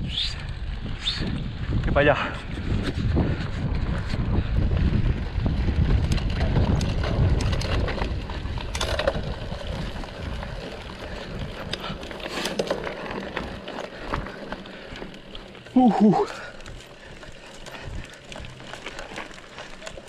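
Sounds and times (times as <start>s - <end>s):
bike rattles and clicks: 0.0s - 20.0s
wind buffeting microphone: 0.0s - 20.0s
bicycle rolling over dirt: 0.4s - 20.0s.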